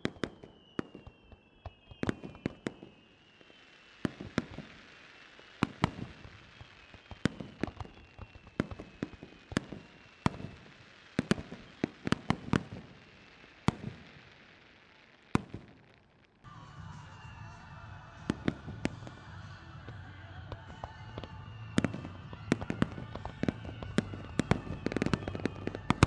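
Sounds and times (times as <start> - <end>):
fireworks booming and cracking: 0.0 - 16.5, 18.0 - 26.0.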